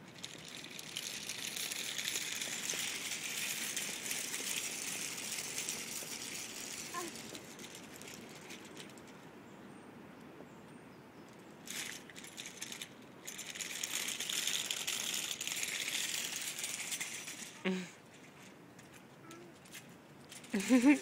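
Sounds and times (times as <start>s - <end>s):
toy stroller rattling on concrete: 0.0s - 9.4s, 11.4s - 21.0s.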